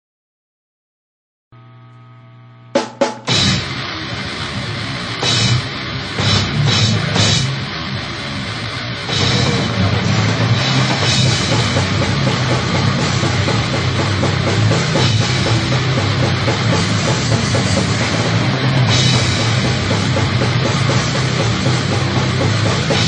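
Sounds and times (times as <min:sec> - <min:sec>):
heavy metal band playing: 0:02.8 - 0:23.0
electric guitar lead-in: 0:03.2 - 0:23.0.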